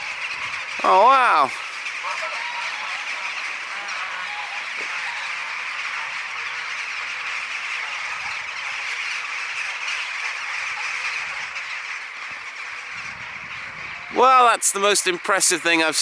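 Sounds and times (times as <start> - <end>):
huge flock of birds calling: 0.0 - 16.0.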